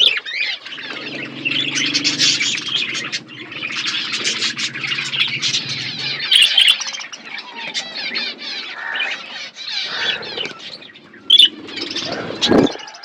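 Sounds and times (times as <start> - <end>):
budgerigars chattering and warbling: 0.0 - 13.0.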